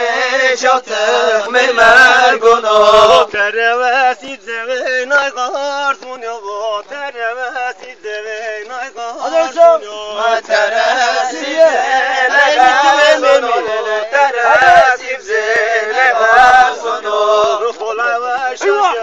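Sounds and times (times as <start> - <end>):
men singing folk song: 0.0 - 19.0.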